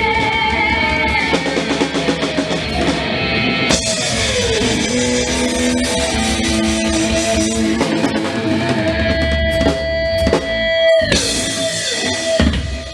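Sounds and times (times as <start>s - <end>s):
electric guitar: 0.0s - 12.9s
drum kit hits: 2.5s - 12.9s.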